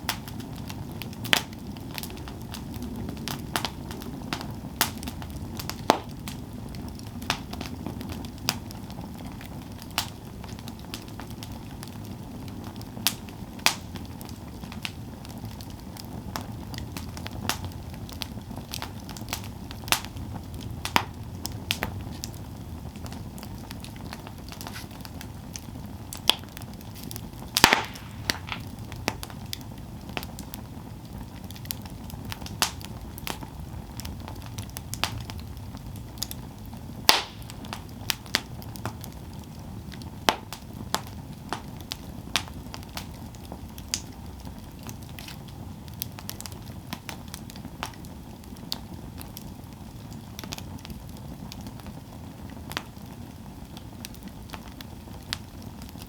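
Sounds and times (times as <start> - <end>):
campfire rumble: 0.0 - 56.0
wood crackling and popping: 0.0 - 56.0.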